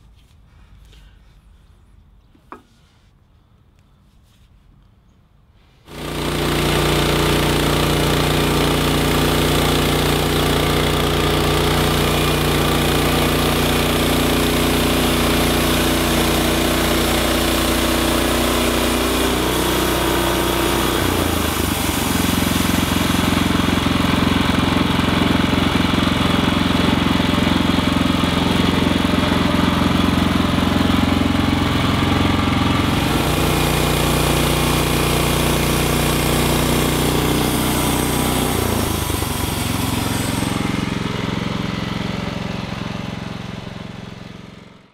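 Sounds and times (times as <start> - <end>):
band saw cutting log: 5.9 - 43.7
sawmill motor running: 5.9 - 44.9.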